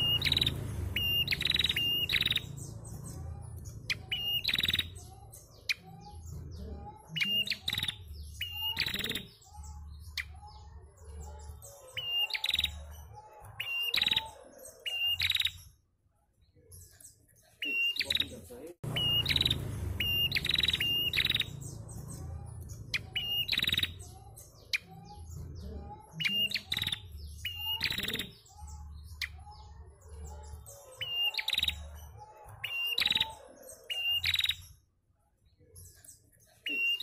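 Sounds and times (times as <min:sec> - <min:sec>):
sharp high bird chirps: 0:00.0 - 0:05.9, 0:07.1 - 0:12.9, 0:13.6 - 0:15.8, 0:17.6 - 0:25.2, 0:26.1 - 0:34.8
softer lower bird chirps: 0:00.0 - 0:15.8, 0:18.9 - 0:34.8.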